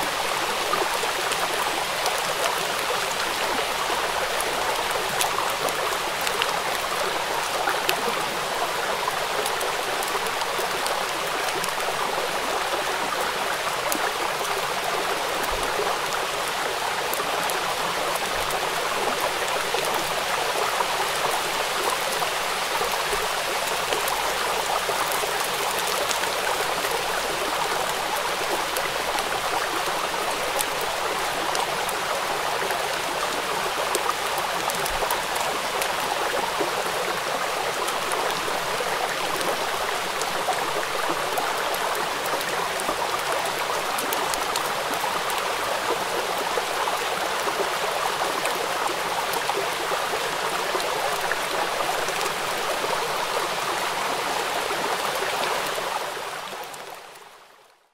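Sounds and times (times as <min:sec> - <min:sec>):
rain falling on river: 0:00.0 - 0:57.9.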